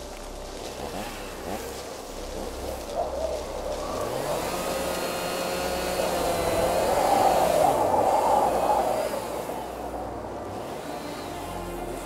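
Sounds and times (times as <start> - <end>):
chainsaw cutting: 0.2 - 9.6, 10.4 - 12.0.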